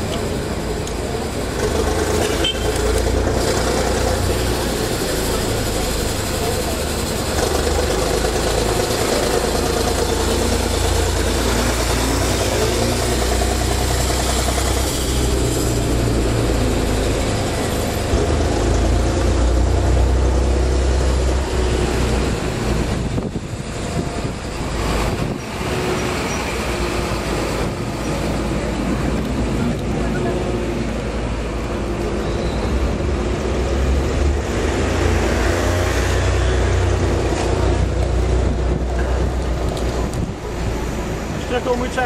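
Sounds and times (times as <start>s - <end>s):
diesel truck engines rumbling: 0.0s - 42.0s.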